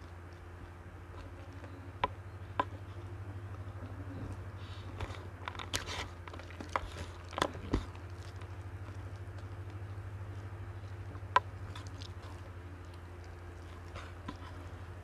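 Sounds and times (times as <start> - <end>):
cracker crunching: 0.0 - 15.0
low hum: 0.0 - 15.0.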